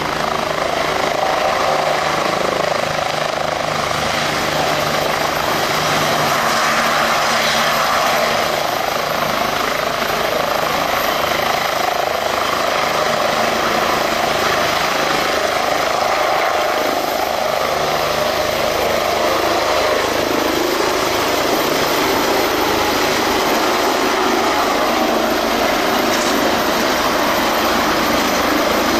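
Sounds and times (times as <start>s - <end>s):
helicopter taking off: 0.0s - 28.9s.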